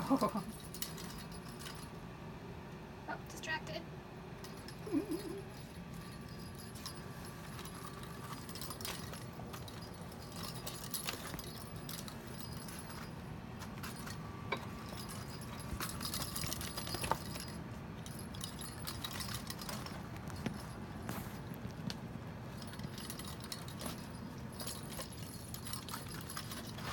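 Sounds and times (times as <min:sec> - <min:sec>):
light jingling and clinking: 0:00.0 - 0:02.1, 0:04.3 - 0:26.9
steady low hum: 0:00.0 - 0:26.9.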